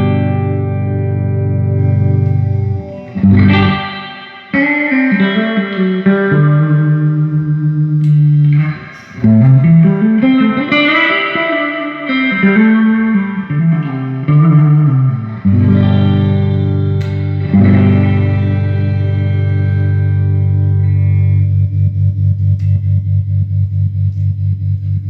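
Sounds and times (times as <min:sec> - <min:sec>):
electric guitar with reverb: 0:00.0 - 0:25.0.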